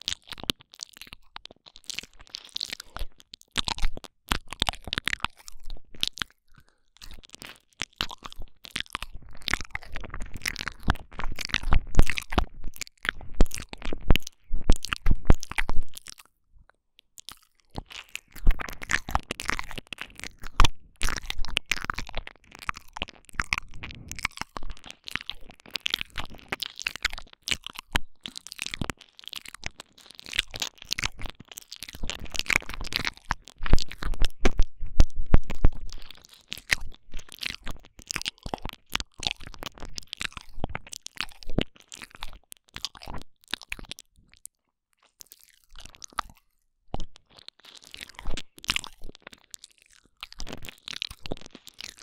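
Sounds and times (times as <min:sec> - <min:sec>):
lips and tongue smacking: 0:00.0 - 0:52.0
wet mouth sounds: 0:00.0 - 0:52.0.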